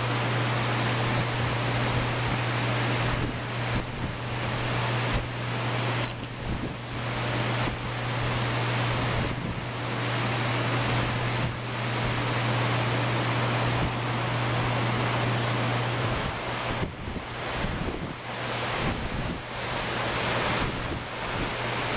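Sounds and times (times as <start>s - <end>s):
steady low hum: 0.0s - 21.9s
wind on microphone: 1.0s - 9.8s, 10.7s - 21.9s.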